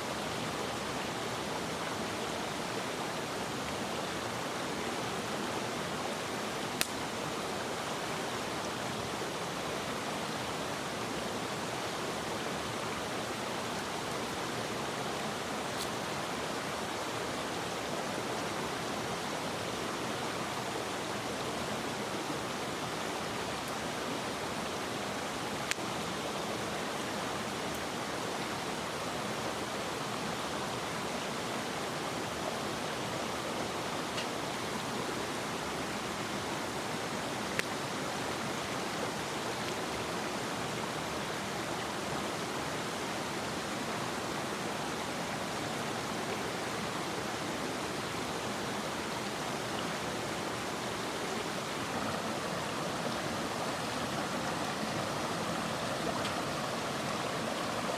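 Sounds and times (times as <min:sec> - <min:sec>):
stream rushing: 0:00.0 - 0:57.9.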